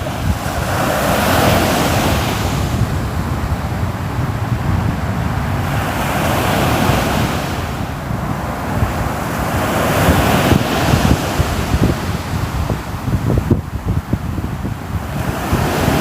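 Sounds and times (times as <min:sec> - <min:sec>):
low wind rumble: 0:00.0 - 0:16.0
waves breaking: 0:00.0 - 0:16.0.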